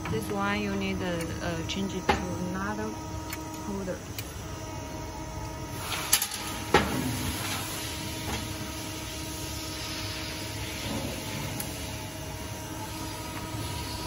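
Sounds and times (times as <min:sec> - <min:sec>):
screen printing machine humming: 0:00.0 - 0:14.0.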